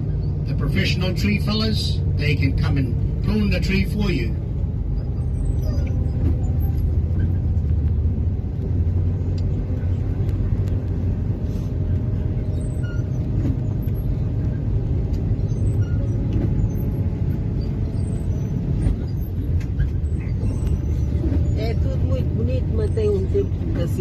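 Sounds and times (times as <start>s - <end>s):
bus engine and road drone: 0.0s - 24.0s.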